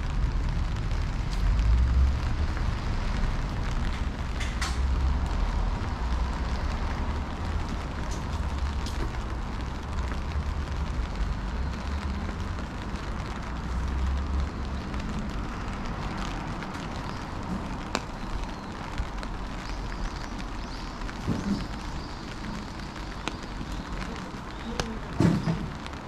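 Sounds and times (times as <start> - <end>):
low rumble of traffic: 0.0 - 26.0
steady rain hiss: 0.0 - 26.0.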